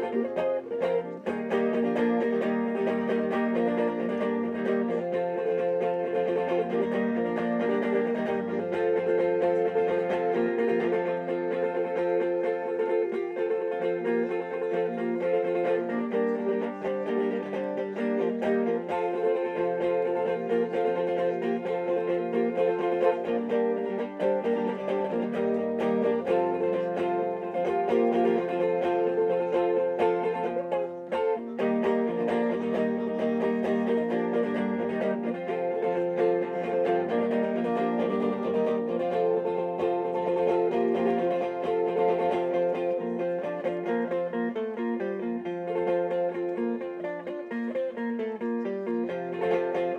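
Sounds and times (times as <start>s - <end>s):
acoustic guitar playing: 0.0s - 49.9s.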